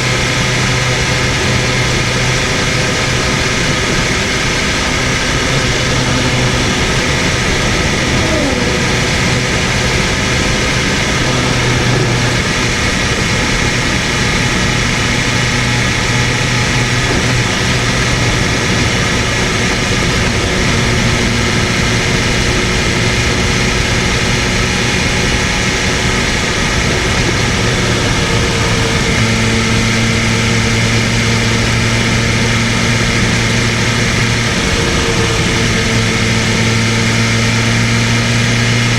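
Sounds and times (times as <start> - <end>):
motorcycle engine running: 0.0 - 38.9
rushing noise: 0.0 - 38.9.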